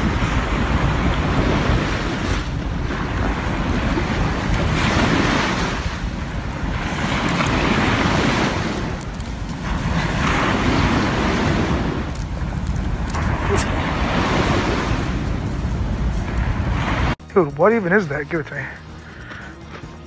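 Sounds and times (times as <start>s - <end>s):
surf washing on beach: 0.0s - 17.2s
wind buffeting microphone: 0.0s - 20.0s.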